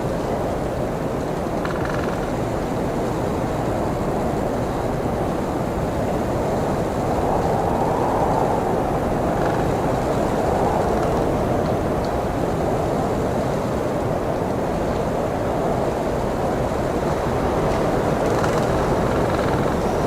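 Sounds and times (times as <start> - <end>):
blizzard wind blowing: 2.5 - 20.0.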